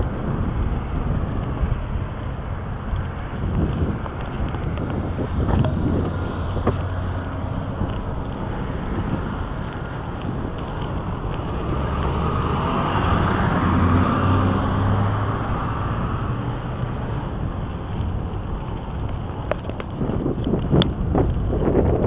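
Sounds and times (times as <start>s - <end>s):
passing vehicle engine hum: 0.0s - 22.0s
wind buffeting microphone: 0.0s - 22.0s.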